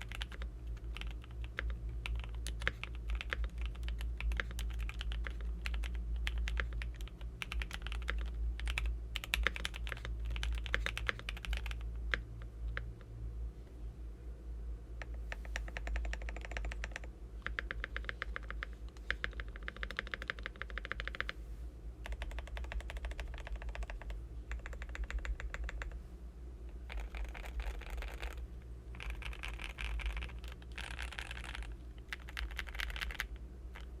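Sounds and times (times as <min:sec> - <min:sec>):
long keys pressed rapidly: 0:00.0 - 0:12.9, 0:15.5 - 0:21.3, 0:22.0 - 0:26.0, 0:26.9 - 0:33.9
mechanical keyboard typing: 0:00.0 - 0:12.9, 0:15.0 - 0:21.3, 0:22.0 - 0:26.0, 0:26.9 - 0:33.9
steady low hum: 0:00.0 - 0:34.0.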